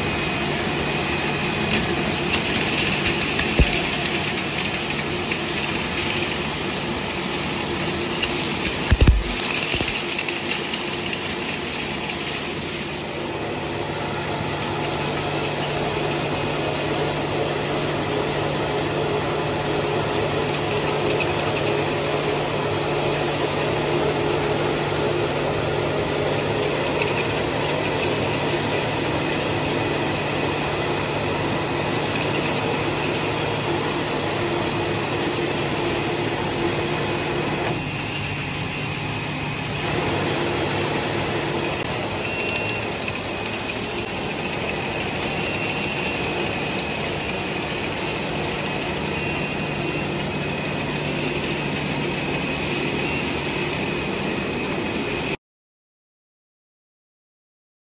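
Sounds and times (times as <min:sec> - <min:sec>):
factory machinery humming: 0:00.0 - 0:55.4.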